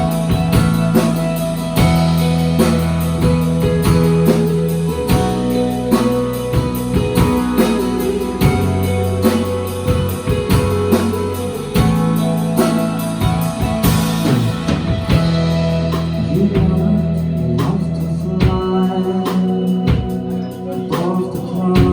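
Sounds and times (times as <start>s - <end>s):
electric guitar lines: 0.0s - 21.9s
steady drum beat: 0.0s - 21.9s
sustained bass notes: 0.0s - 21.9s.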